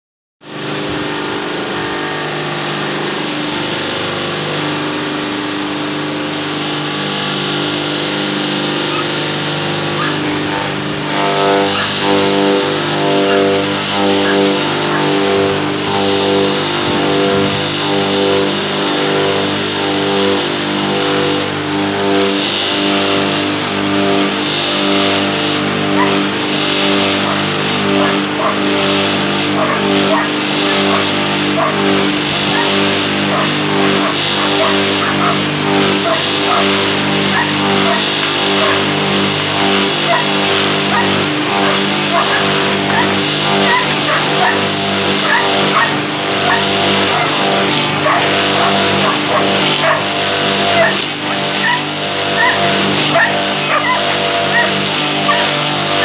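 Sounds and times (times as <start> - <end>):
log rounding machine motor drone: 0.4 - 56.0.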